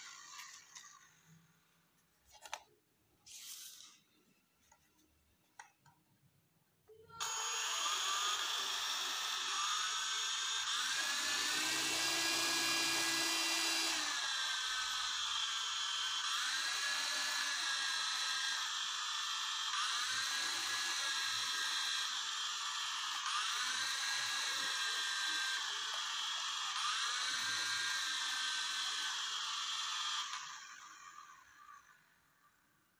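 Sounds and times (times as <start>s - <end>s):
toy helicopter motors whining: 0.0s - 1.4s, 7.1s - 32.5s.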